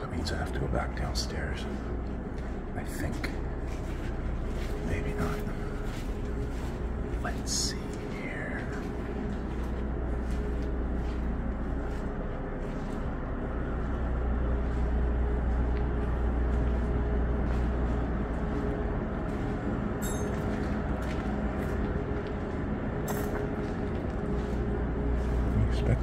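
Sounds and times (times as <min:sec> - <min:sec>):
faint hum: 0:00.0 - 0:26.0
low rumble: 0:00.0 - 0:26.0.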